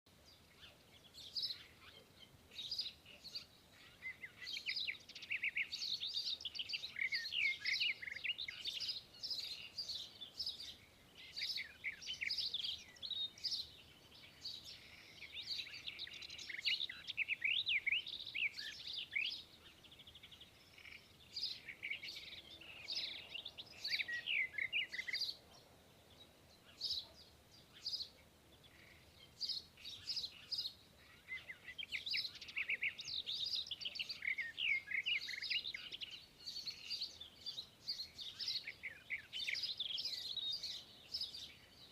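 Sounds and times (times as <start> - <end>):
birds chirping and singing: 0.1 - 41.9.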